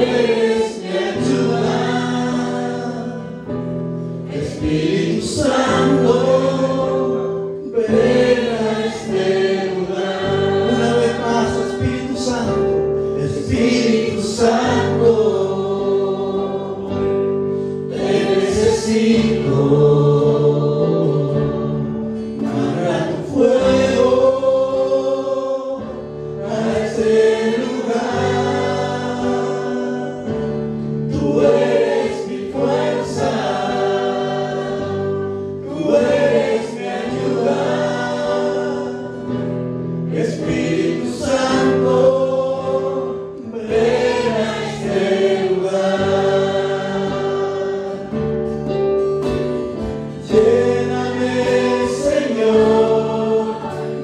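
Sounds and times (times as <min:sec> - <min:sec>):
group singing worship song: 0:00.0 - 0:54.0.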